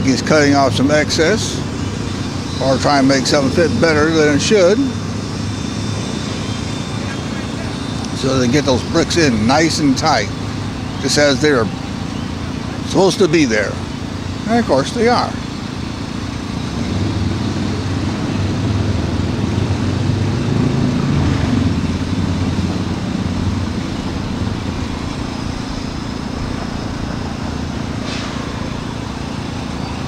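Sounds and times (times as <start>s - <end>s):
engine droning: 0.0s - 30.0s.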